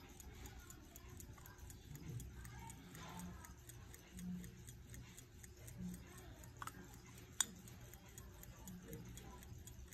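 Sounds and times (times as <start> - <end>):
pocket watch ticking: 0.0 - 9.9.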